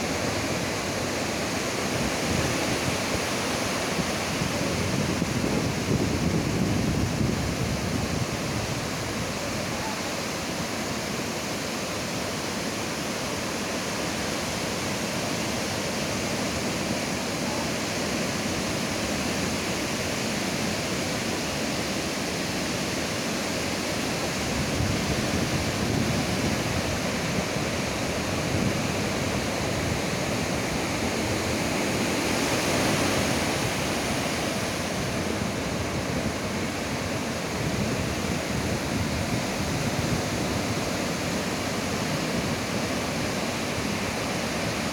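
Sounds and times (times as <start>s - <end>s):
wind on microphone: 0.0s - 12.7s, 13.5s - 44.9s
waves breaking: 0.0s - 44.9s.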